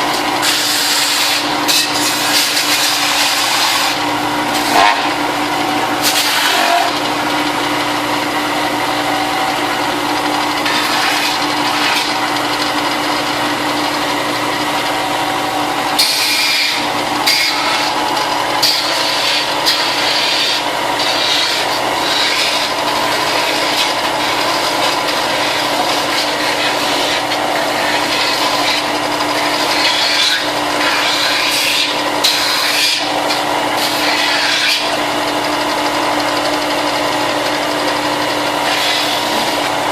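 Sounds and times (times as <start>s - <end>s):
electric sander grinding plastic: 0.0s - 39.9s.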